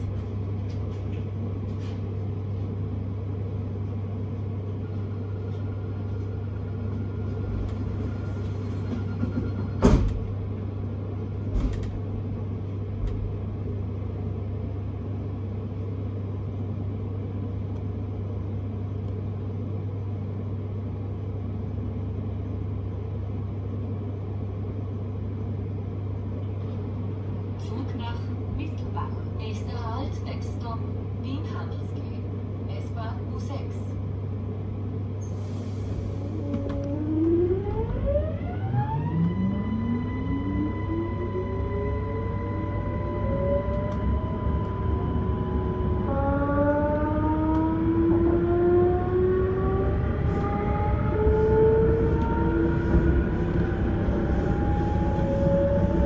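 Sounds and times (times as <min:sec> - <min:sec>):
train hum and rumble: 0:00.0 - 0:56.0.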